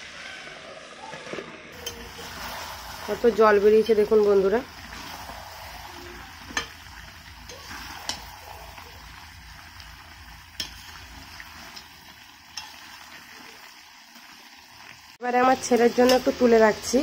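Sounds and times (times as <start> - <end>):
curry sizzling in a pan: 1.7 - 17.0.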